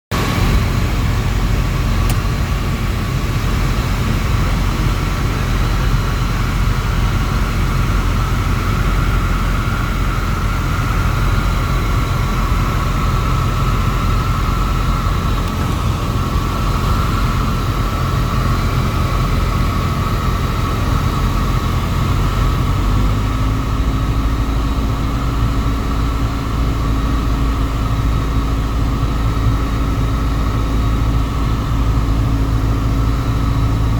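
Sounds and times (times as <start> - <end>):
piston engine and propeller droning: 0.1 - 33.9.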